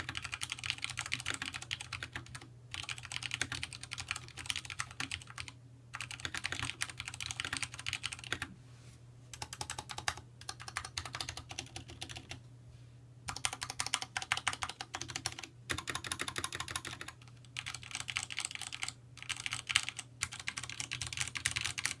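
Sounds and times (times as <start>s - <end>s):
mechanical keyboard typing: 0.0s - 8.5s, 9.4s - 12.4s, 13.3s - 22.0s
faint steady hum: 0.0s - 22.0s.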